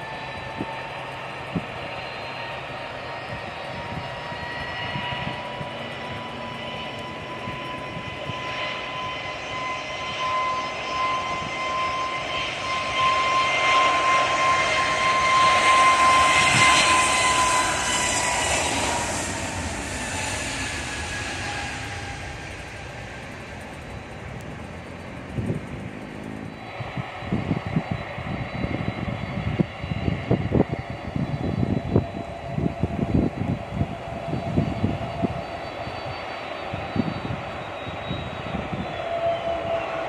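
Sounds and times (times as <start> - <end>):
jet engines whining: 0.0 - 40.0.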